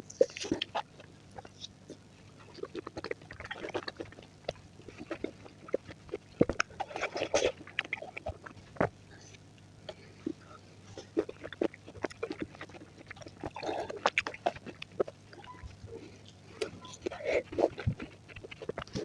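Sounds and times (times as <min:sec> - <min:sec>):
chewing crunchy fruit: 0:00.0 - 0:19.0
mouth clicks and smacks: 0:00.1 - 0:10.4, 0:11.0 - 0:16.0, 0:16.6 - 0:19.0.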